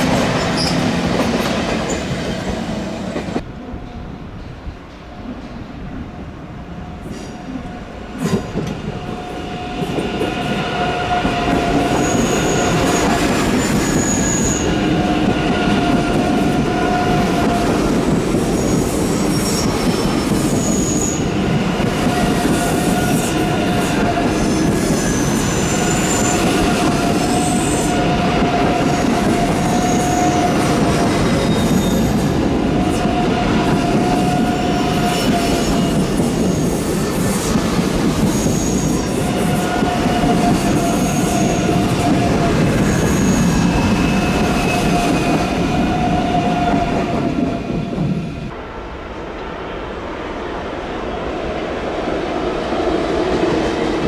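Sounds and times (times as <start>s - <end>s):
high-speed train rumbling past: 0.0s - 54.0s.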